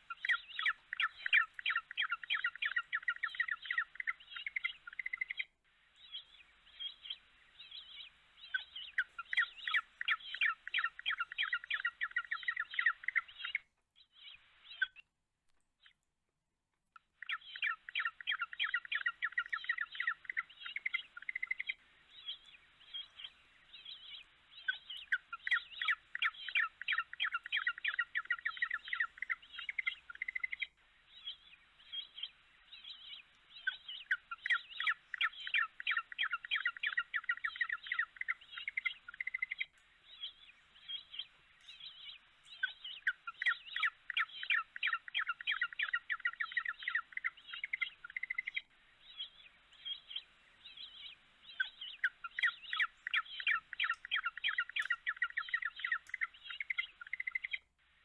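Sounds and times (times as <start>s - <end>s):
birds chirping: 0.0s - 15.1s, 16.9s - 57.8s.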